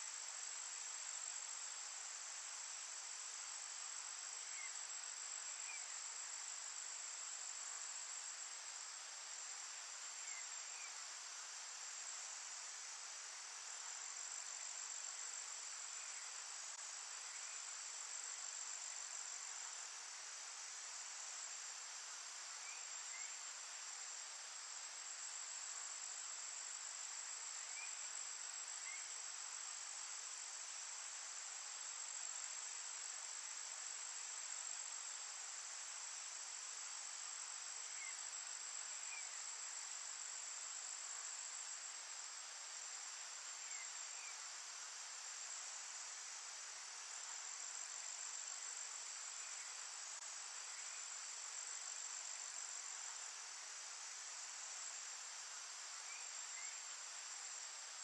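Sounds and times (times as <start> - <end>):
crickets chorus: 0.0 - 58.0.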